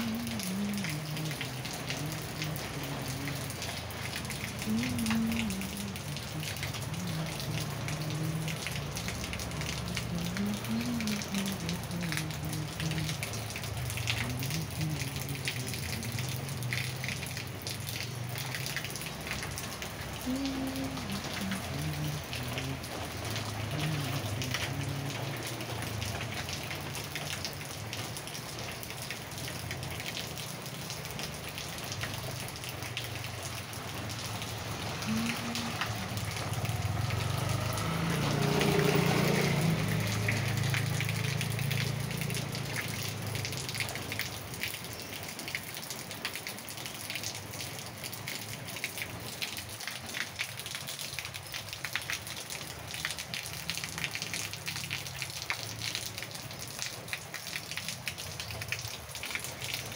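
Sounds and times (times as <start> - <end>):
single raindrops: 0.0 - 59.9
steady rain on paving and leaves: 0.0 - 59.9.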